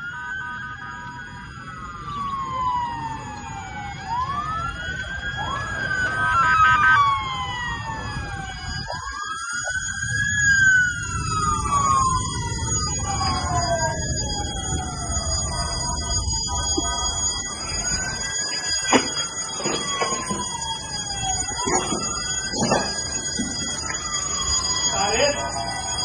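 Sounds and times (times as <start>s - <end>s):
emergency vehicle sirens wailing: 0.0s - 26.0s.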